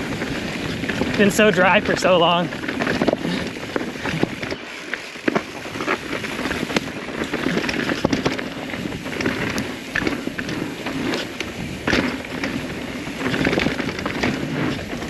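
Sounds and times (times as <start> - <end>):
bike clattering over bumps: 0.0 - 15.0
bike tyres crunching on dirt: 0.0 - 15.0.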